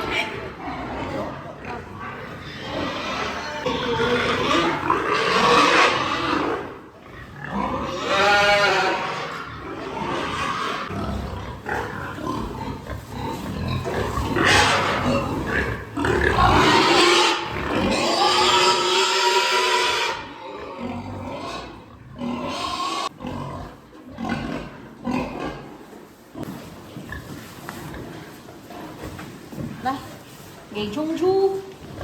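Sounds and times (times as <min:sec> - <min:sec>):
pigs squealing and grunting: 0:00.0 - 0:25.7.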